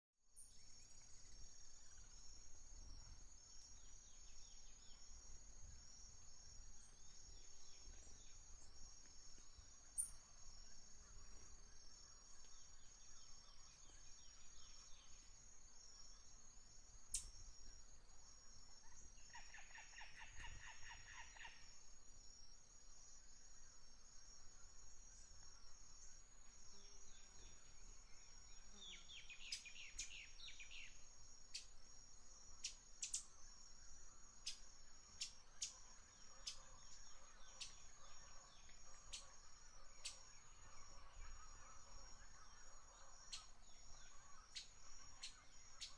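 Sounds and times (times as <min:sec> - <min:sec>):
insect chirring: 0:00.4 - 0:45.9.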